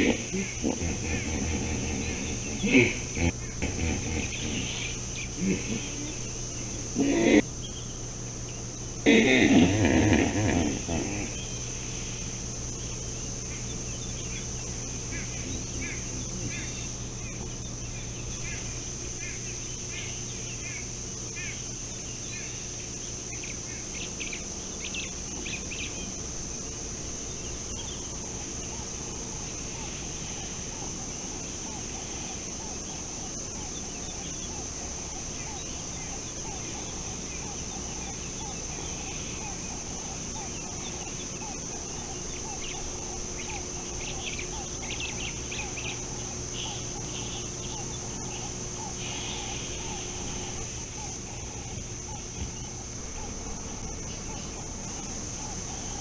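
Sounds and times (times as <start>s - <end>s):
chattering bird calls: 0.0s - 8.0s, 8.6s - 26.2s, 27.2s - 56.0s
high-pitched insect drone: 0.0s - 56.0s.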